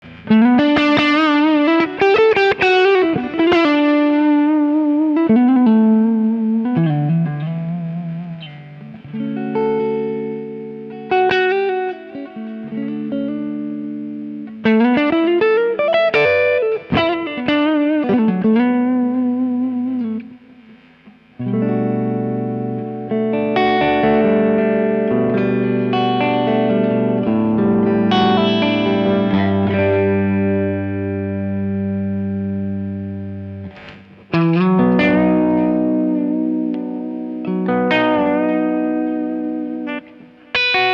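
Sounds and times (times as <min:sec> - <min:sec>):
electric guitar melodic lines: 0:00.0 - 0:40.9
electric guitar ringing chords: 0:00.0 - 0:40.9.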